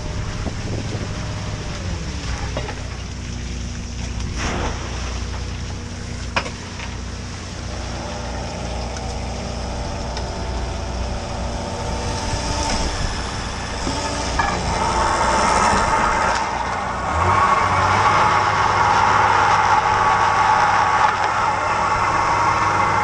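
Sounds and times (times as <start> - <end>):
boat engine and machinery: 0.0 - 23.0.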